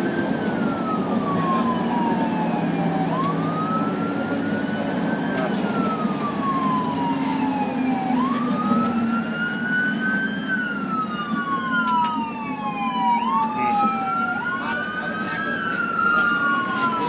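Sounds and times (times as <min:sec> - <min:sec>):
fire engine wail siren: 0:00.0 - 0:17.0.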